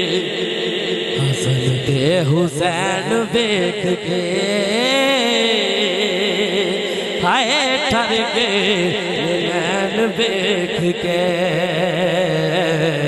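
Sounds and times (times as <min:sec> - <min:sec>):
man singing through sound system: 0:00.0 - 0:13.0.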